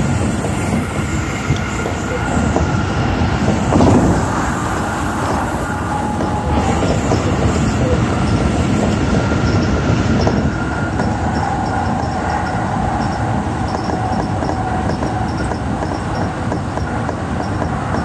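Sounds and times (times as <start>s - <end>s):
passing train: 0.0s - 18.0s
train wheels rolling on rails: 0.0s - 18.0s.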